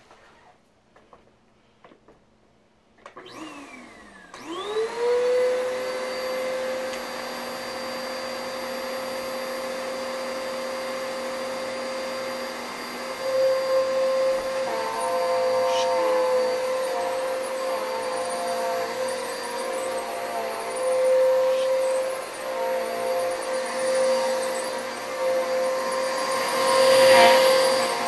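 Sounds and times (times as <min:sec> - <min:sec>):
vacuum cleaner motor whine: 0:03.0 - 0:28.0.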